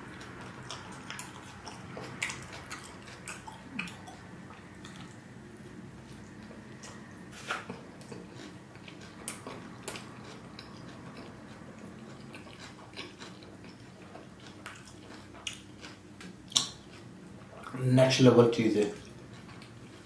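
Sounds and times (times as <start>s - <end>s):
close-miked chewing: 0.0s - 17.8s, 18.9s - 20.0s.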